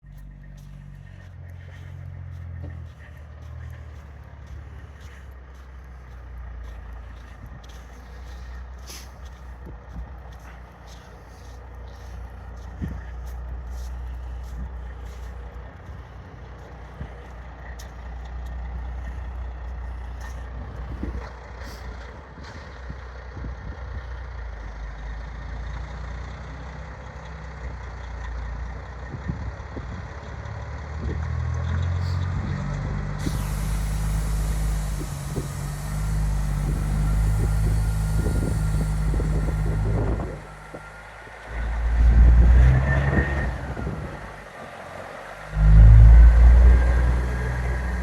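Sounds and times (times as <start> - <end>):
heavy diesel truck engine: 0.0 - 48.0.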